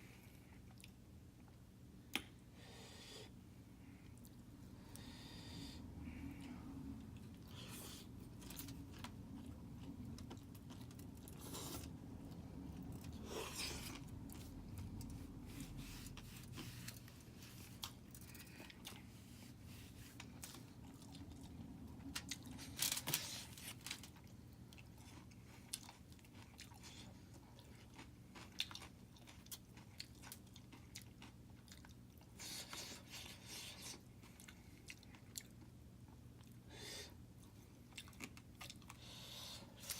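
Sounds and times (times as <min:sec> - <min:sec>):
faint steady hum: 0:00.0 - 0:39.9
person chewing crunchy food: 0:07.0 - 0:36.6, 0:37.4 - 0:39.9.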